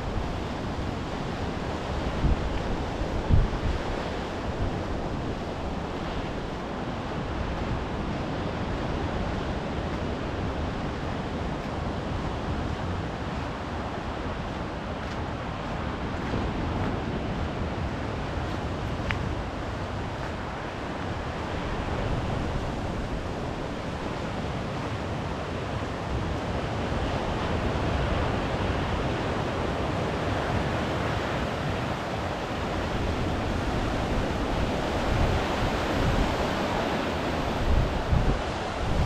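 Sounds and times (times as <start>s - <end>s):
wind buffeting microphone: 0.0s - 29.0s, 30.3s - 39.0s
waves washing onto beach: 0.0s - 39.0s.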